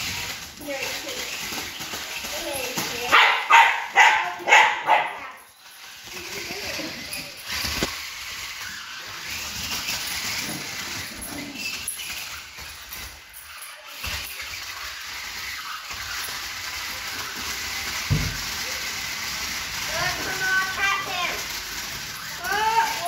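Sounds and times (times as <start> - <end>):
toy car motor whirring: 0.0 - 23.0
toy car thumping: 0.0 - 23.0.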